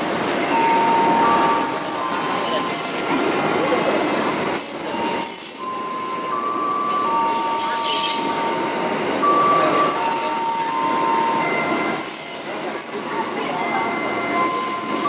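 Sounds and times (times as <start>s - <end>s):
train wheels rumbling on rails: 0.0s - 15.0s
high wheel squealing: 0.3s - 15.0s.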